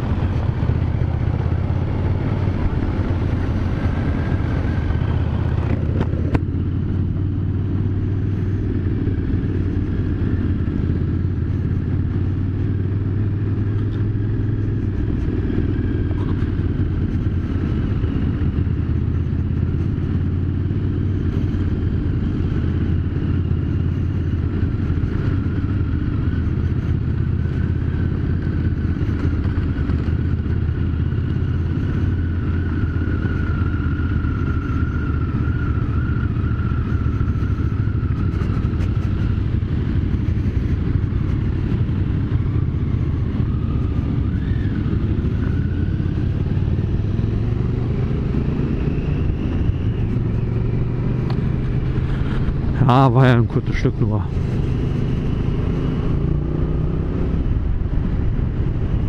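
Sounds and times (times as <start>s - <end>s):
motorcycle engine cruising: 0.0s - 59.0s
wind rumble: 0.0s - 59.0s.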